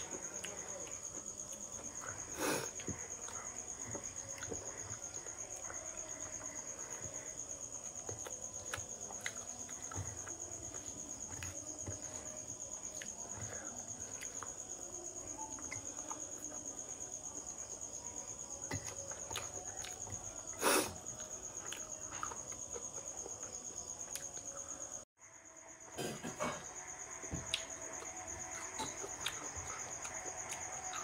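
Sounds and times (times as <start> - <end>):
chewing: 0.0 - 17.6, 18.6 - 24.7, 27.4 - 31.0
cricket trilling: 0.0 - 31.0.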